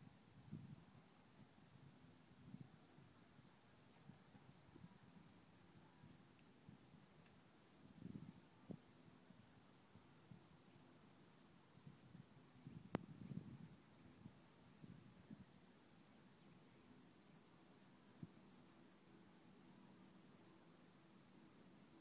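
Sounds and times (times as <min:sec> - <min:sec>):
faint high-pitched ticking: 0:00.0 - 0:22.0.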